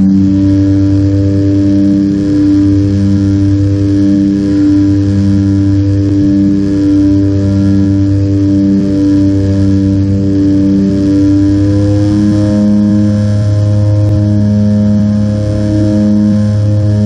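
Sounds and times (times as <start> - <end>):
propeller plane engines humming: 0.0 - 17.0.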